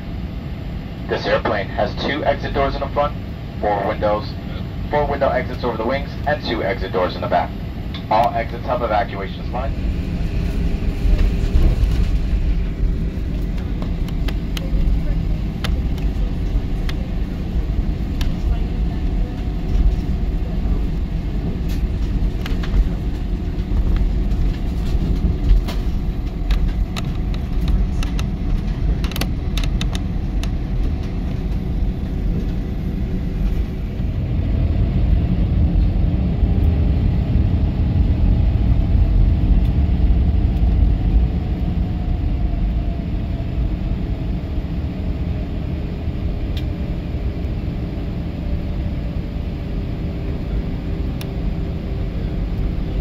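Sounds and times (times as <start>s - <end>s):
faint engine hum: 0.0s - 53.0s
jet engines low rumble: 0.0s - 53.0s.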